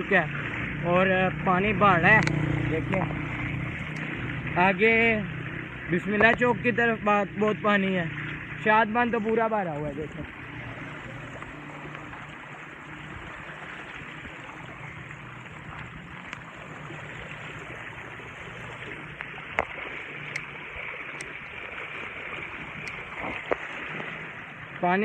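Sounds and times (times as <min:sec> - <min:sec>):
rush of flowing water: 0:00.0 - 0:25.0.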